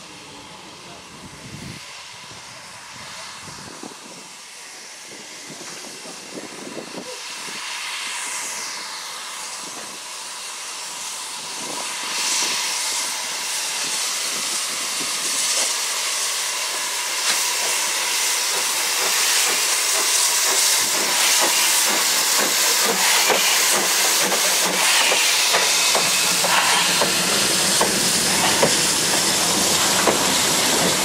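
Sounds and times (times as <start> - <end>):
steam locomotive exhaust beats: 0.0 - 31.0
steam locomotive hiss: 0.0 - 31.0.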